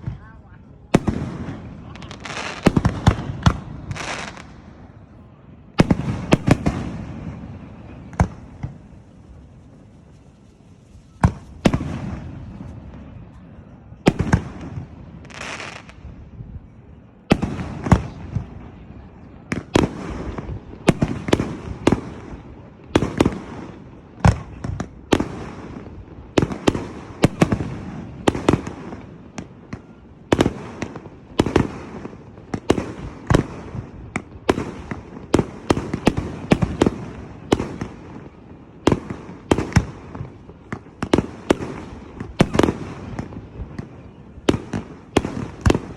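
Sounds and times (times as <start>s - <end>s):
fireworks bangs: 0.0s - 16.2s, 17.2s - 45.9s.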